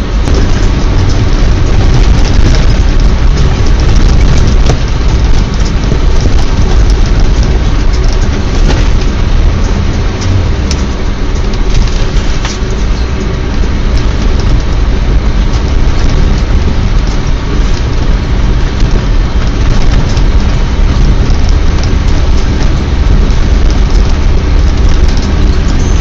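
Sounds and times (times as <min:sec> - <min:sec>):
engine drone: 0:00.0 - 0:26.0.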